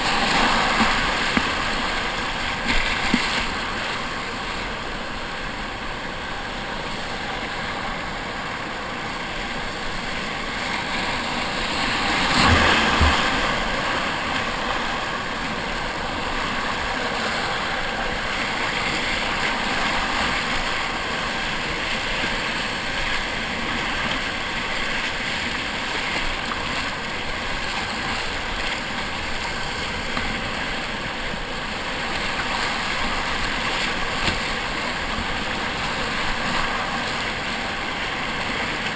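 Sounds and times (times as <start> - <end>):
whitewater rushing and churning: 0.0 - 38.9.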